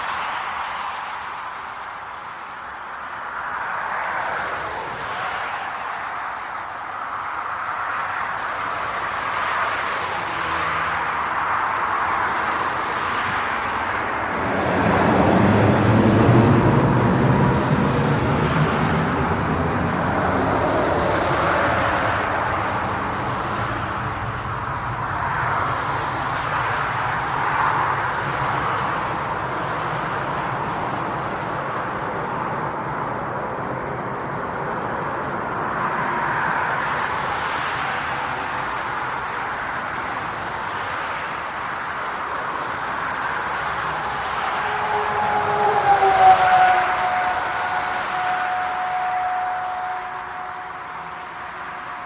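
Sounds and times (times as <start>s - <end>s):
jet airliner engines running: 0.0s - 52.0s.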